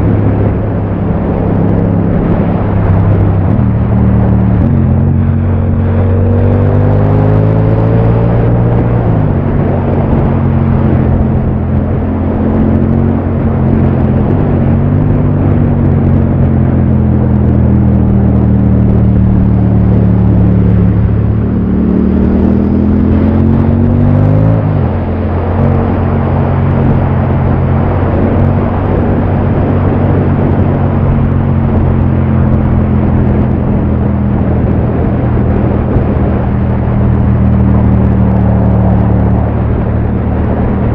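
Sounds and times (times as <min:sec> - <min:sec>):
motorcycle engine revving: 0:00.0 - 0:40.9
road and wind noise: 0:00.0 - 0:40.9.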